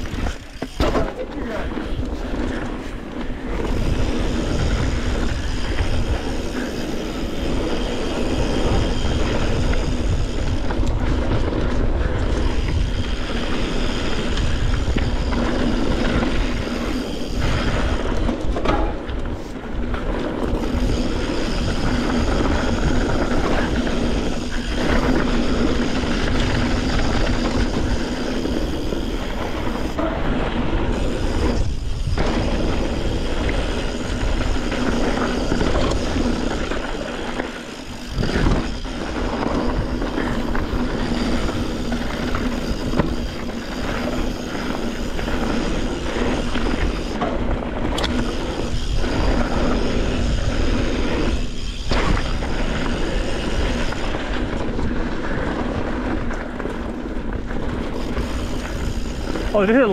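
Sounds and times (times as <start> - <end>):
bike tyres over dirt and rock: 0.0 - 59.9
wind on microphone: 0.0 - 59.9.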